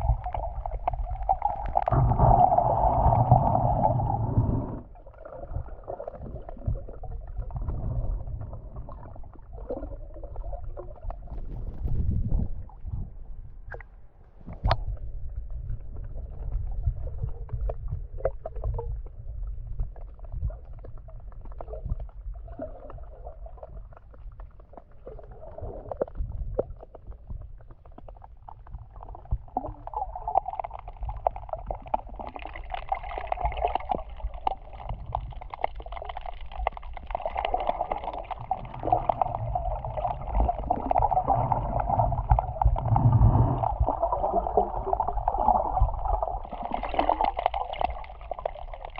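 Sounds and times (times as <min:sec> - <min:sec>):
clicks and gurgles: 0:00.0 - 0:48.9
underwater moving water rumble: 0:00.0 - 0:48.9.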